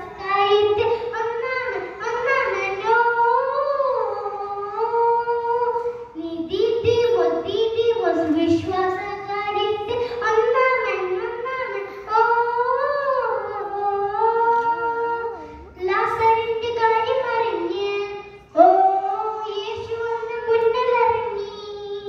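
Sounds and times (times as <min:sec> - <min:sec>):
girl singing: 0:00.0 - 0:22.0.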